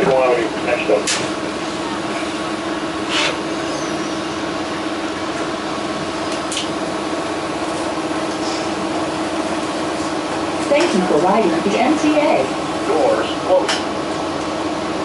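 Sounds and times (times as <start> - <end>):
bus engine and air conditioning hum: 0.0 - 15.0.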